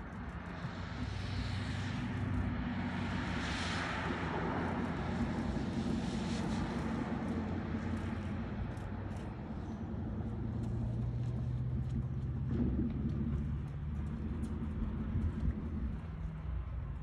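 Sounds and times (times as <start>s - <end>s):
car engine driving past: 0.6s - 17.0s.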